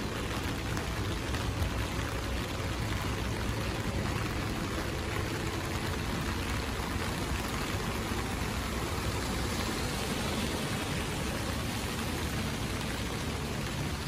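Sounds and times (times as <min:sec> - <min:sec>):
rain on wet pavement: 0:00.0 - 0:14.0.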